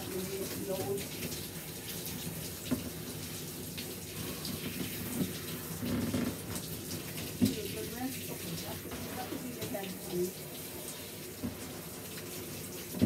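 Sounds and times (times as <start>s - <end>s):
shower head spraying water: 0.0s - 13.0s.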